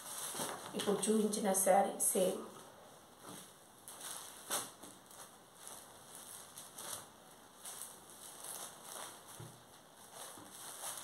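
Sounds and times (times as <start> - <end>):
silk fabric rustling: 0.0 - 1.3, 3.2 - 11.0.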